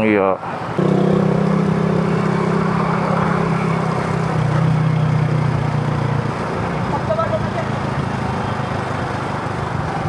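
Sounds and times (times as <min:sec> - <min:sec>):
vehicle engine humming: 0:00.4 - 0:10.0.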